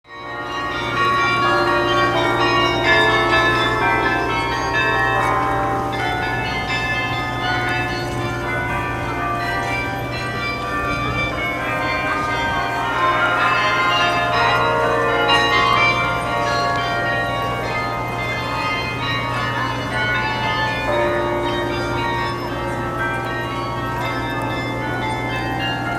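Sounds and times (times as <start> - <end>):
carillon bells playing a tune: 0.1 - 25.9.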